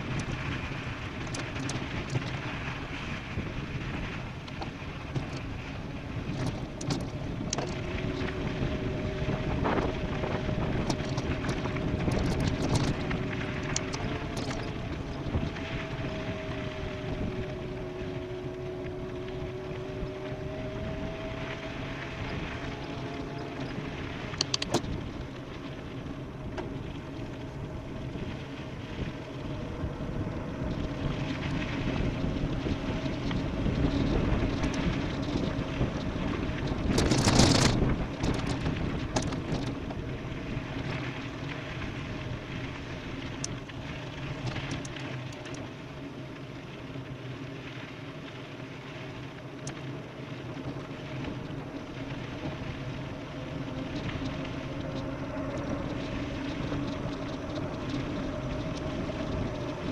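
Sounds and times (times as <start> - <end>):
wind rushing over microphone: 0.0 - 46.0, 49.6 - 59.9
tyre and road noise: 0.0 - 48.4, 49.1 - 59.9.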